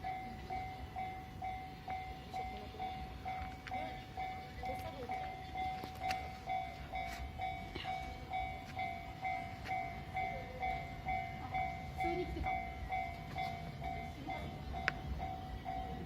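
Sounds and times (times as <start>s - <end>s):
level crossing warning bell: 0.0s - 16.0s
passing train rumble: 0.0s - 16.0s.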